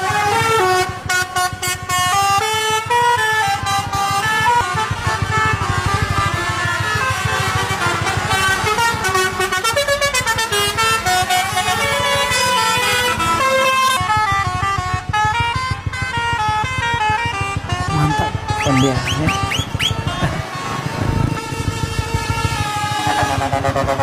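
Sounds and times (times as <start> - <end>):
engine pulsing: 0.0 - 24.0
musical air horns playing a tune: 0.0 - 24.0.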